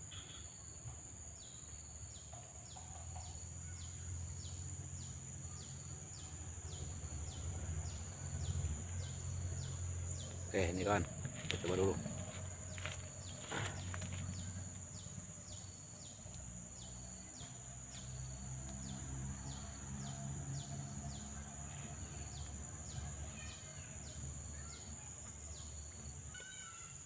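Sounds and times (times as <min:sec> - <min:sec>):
insect chirps: 0:00.0 - 0:27.0
insects high-pitched drone: 0:00.0 - 0:27.0.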